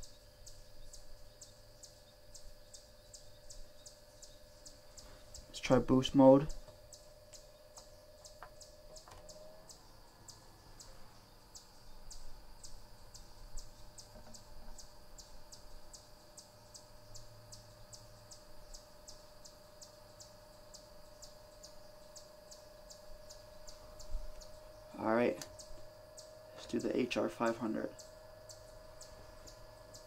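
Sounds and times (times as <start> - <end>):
fan hum with whine: 0.0 - 30.0
high ticking chirp: 0.0 - 30.0.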